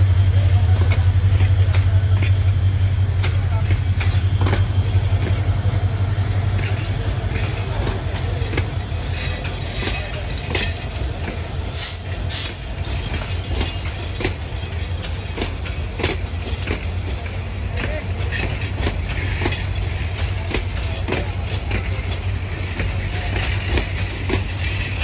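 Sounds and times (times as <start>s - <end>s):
train coaches rumbling past: 0.0s - 25.0s
wheels clicking on rails: 0.1s - 25.0s.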